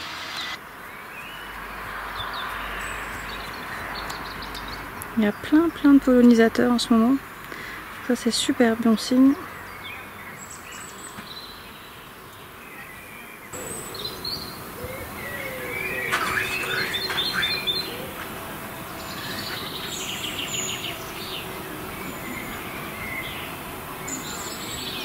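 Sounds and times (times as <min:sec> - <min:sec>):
small birds chirping and trilling: 0:00.6 - 0:25.0.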